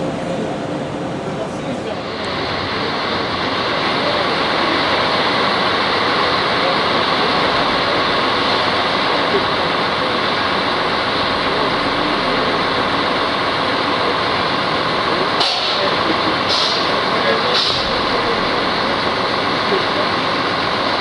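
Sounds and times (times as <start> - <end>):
diesel railcar engines droning: 0.0 - 21.0.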